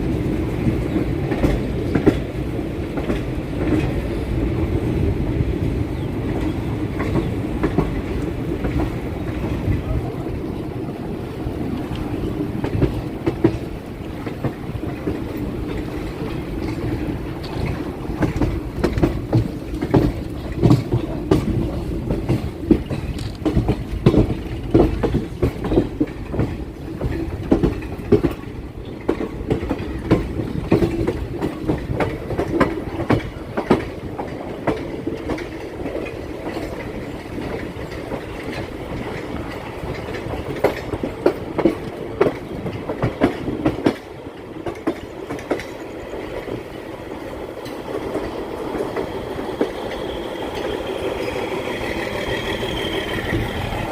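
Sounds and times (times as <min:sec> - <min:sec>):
electric train rumbling: 0:00.0 - 0:53.9.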